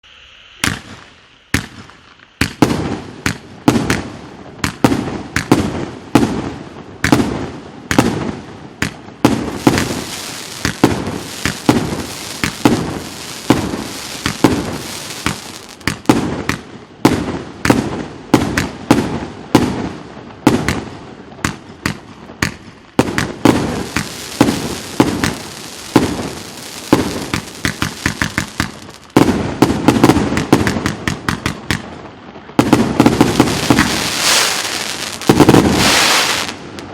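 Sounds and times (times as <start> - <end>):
fireworks launch-and-burst bangs: 0.6 - 36.9.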